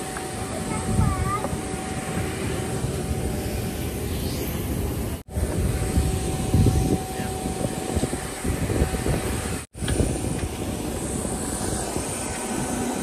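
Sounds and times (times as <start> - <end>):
jet aircraft whine: 0.0 - 13.0.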